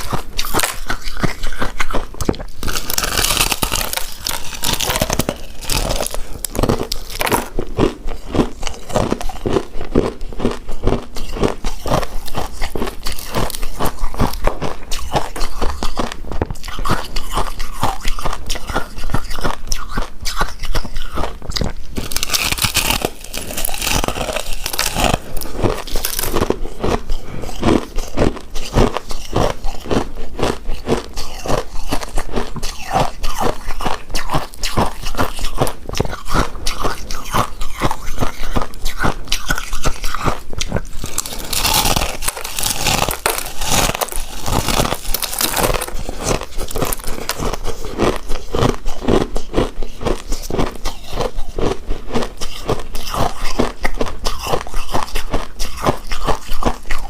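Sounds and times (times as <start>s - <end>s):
chewing and biting: 0.0s - 57.0s
mouth clicks and smacks: 0.0s - 57.0s.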